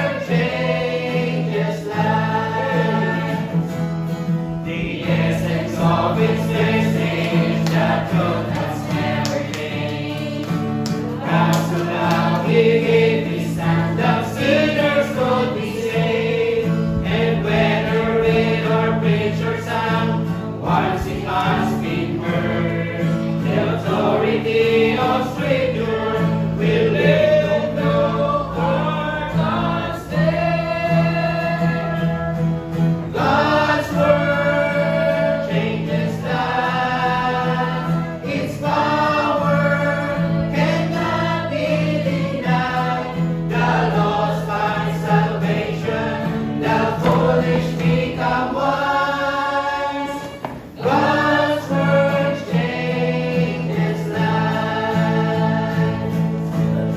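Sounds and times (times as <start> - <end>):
acoustic guitar: 0.0 - 56.9
choir singing a hymn: 0.0 - 56.9.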